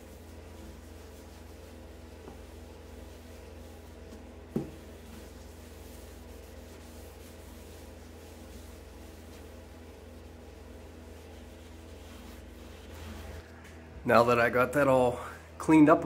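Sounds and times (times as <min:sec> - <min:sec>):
cloth rubbing on wood: 0:00.0 - 0:13.5
steady low hum: 0:00.0 - 0:16.0.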